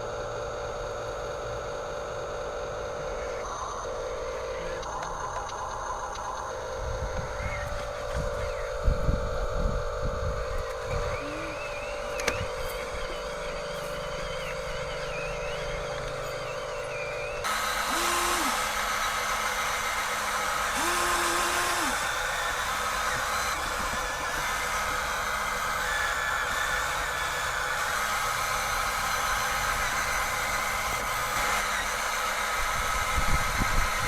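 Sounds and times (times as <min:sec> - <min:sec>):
motor starting and stopping: 0:00.0 - 0:34.0
toy construction machines humming: 0:00.0 - 0:34.0.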